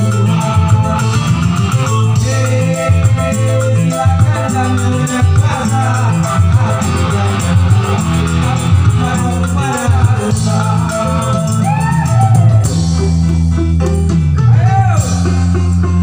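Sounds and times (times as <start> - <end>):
electric bass guitar: 0.0 - 16.0
electronic keyboard: 0.0 - 16.0
steady percussion beat: 0.0 - 16.0.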